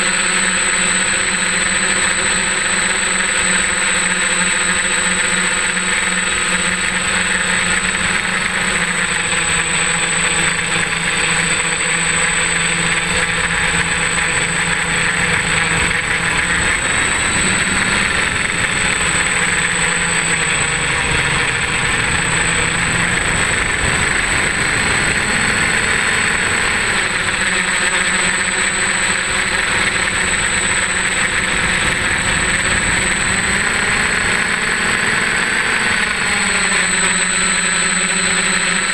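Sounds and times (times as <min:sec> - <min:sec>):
drone propellers buzzing: 0:00.0 - 0:38.9
high whine: 0:00.0 - 0:38.9.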